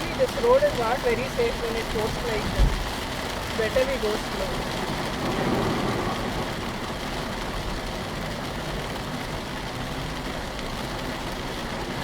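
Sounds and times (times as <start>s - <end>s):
rain hissing on car body: 0.0s - 12.0s
tyres on wet road: 0.0s - 12.0s.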